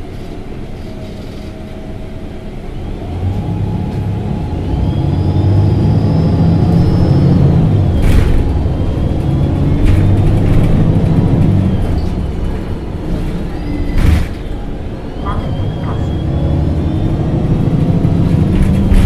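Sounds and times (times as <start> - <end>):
bus engine drone: 0.0 - 19.0.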